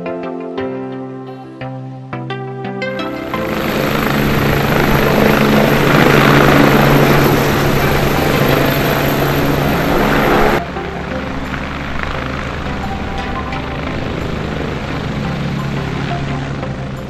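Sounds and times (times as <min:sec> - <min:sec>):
background music: 0:00.0 - 0:17.0
helicopter turbine and rotor noise: 0:03.0 - 0:17.0.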